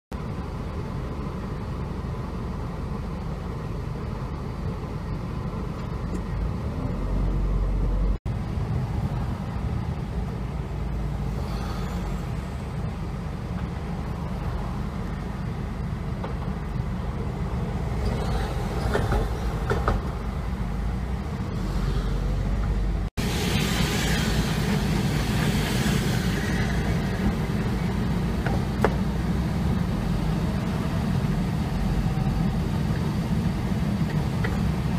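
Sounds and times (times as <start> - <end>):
car driving rumble: 0.1 - 34.9.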